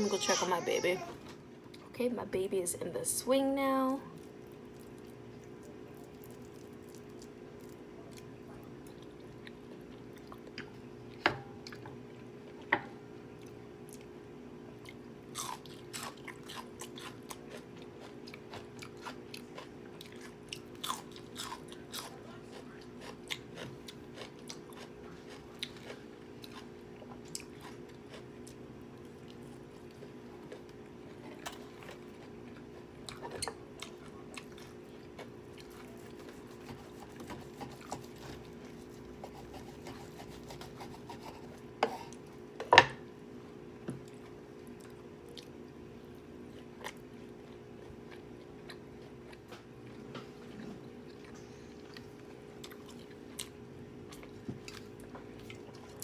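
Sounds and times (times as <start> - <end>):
steady low hum: 0.0 - 56.0
chewing with crisp crunches: 4.1 - 12.7, 13.3 - 40.7, 44.0 - 56.0.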